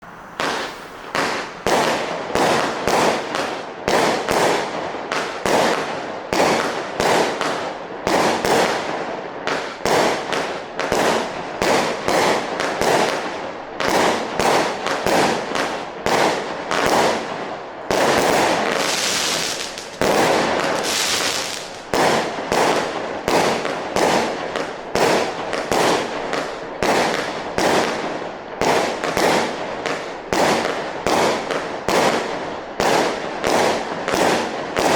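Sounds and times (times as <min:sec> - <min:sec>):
firework hissing and crackle: 0:00.0 - 0:34.9.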